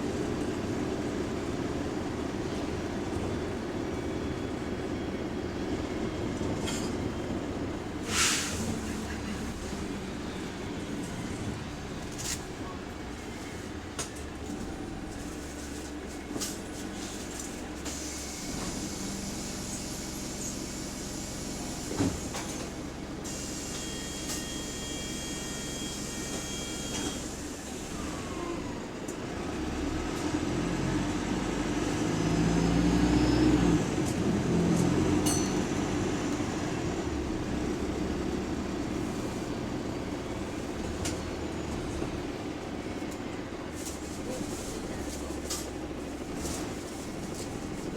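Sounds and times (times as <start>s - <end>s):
bus engine and road noise: 0.0s - 47.9s.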